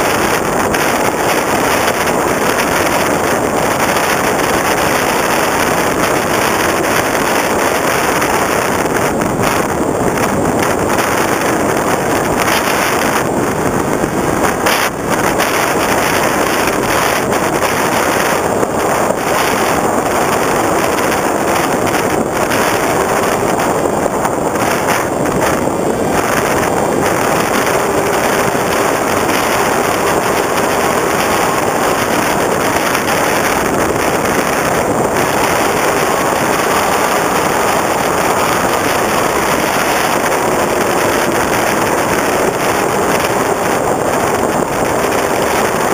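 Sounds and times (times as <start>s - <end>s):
electric motor and propeller hum: 0.0s - 45.9s
wind buffeting microphone: 0.0s - 45.9s.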